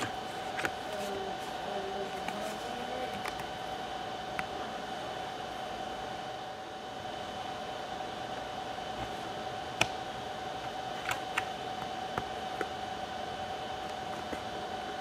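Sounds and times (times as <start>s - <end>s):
constant whine: 0.0s - 15.0s
steady hum: 0.0s - 15.0s.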